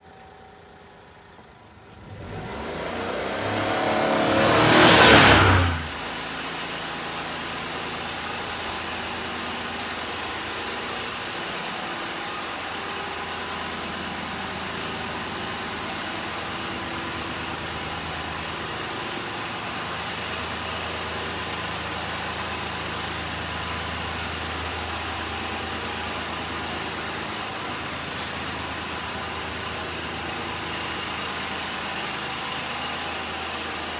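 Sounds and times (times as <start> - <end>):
truck engine revving: 2.0 - 33.9.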